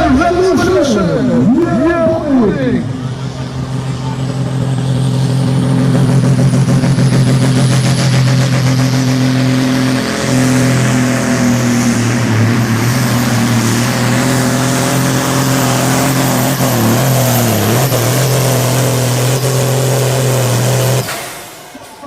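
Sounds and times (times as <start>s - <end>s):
tractor engine running loud: 0.0s - 22.0s.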